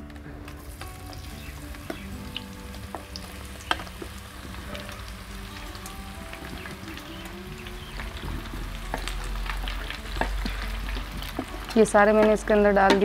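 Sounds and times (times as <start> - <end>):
vegetables sizzling in hot oil: 0.1 - 13.0.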